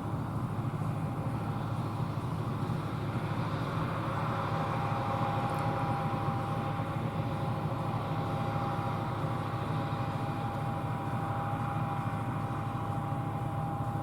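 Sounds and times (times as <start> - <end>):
combine harvester drone: 0.0 - 14.0
thin steady machine whine: 0.0 - 14.0.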